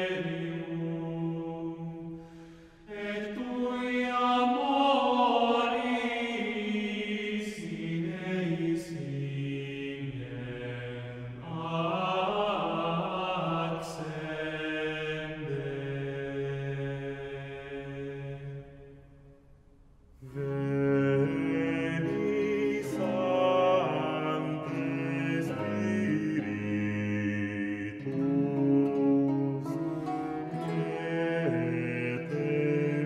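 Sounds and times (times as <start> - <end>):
male choir chanting: 0.0 - 2.3, 2.9 - 18.9, 20.2 - 33.0.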